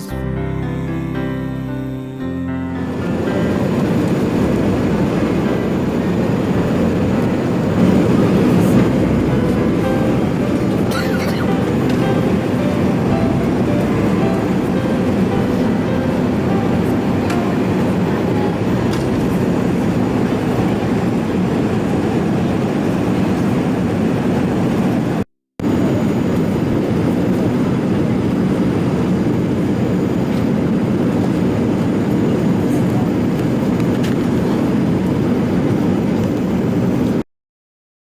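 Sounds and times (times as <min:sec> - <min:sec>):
airliner cabin noise: 0:02.8 - 0:37.2.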